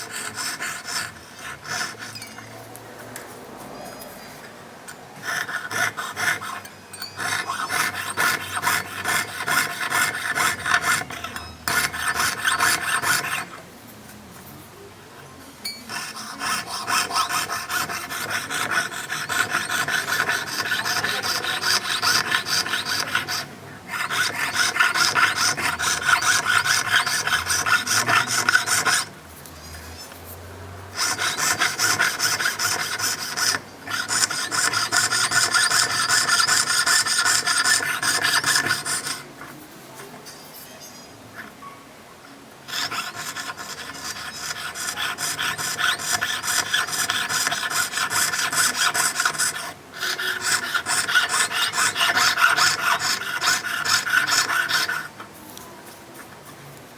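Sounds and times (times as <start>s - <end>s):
hand tool rasping metal: 0.0s - 2.6s, 5.2s - 13.6s, 15.7s - 29.1s, 31.0s - 39.5s, 42.7s - 55.3s.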